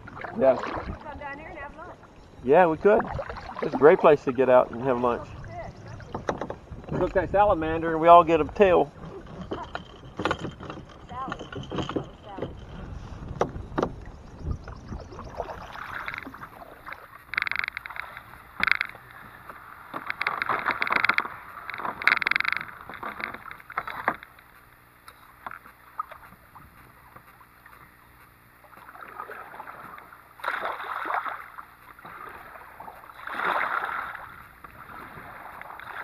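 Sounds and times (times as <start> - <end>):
kayak paddle splashing: 0.0 - 36.0.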